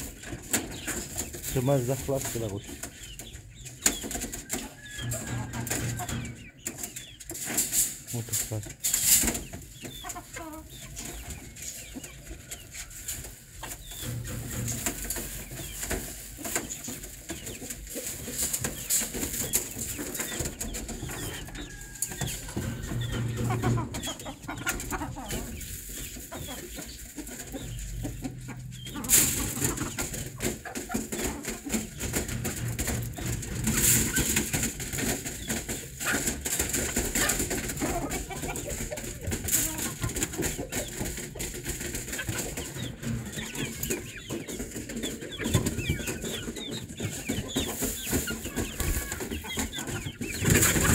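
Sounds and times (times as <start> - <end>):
birds pecking and scratching: 0.0 - 50.9
chickens clucking: 0.0 - 50.9.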